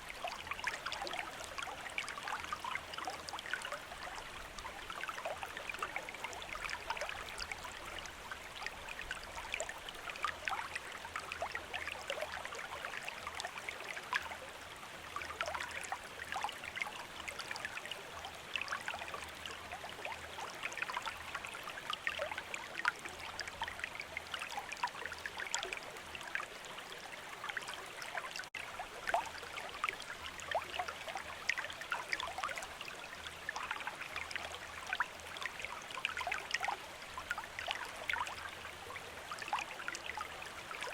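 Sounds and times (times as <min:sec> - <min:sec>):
shallow stream babbling: 0:00.0 - 0:40.9.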